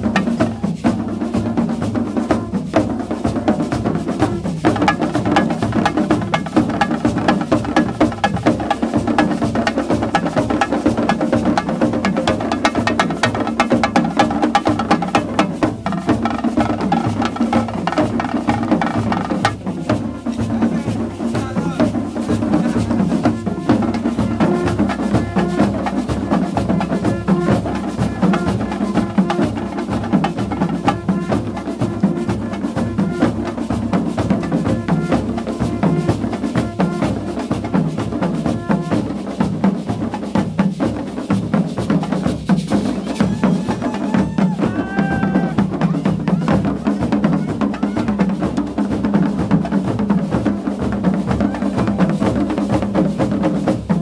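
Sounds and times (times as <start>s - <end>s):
drum section playing: 0.0s - 54.0s.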